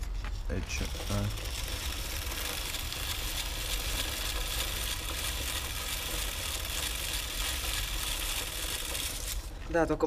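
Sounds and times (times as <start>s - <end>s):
brush scrubbing chain: 0.5s - 9.5s.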